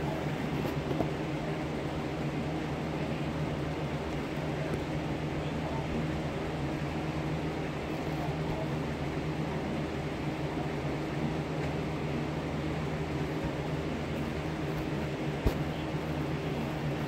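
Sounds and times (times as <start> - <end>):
electric fan whirring: 0.0 - 17.0.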